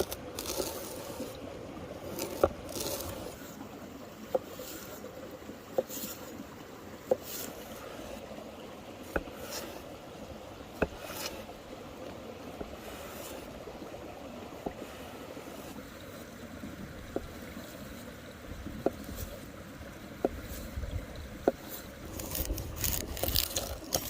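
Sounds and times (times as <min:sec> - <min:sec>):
mountain river running: 0:00.0 - 0:24.0.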